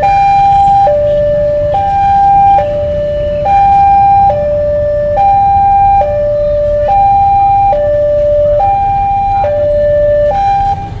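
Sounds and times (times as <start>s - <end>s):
level crossing two-tone alarm: 0.0s - 11.0s.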